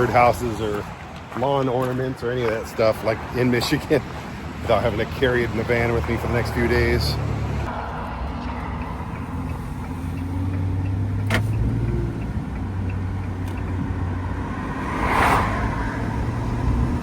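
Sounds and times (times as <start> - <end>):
van engine and road hum: 0.0 - 17.0.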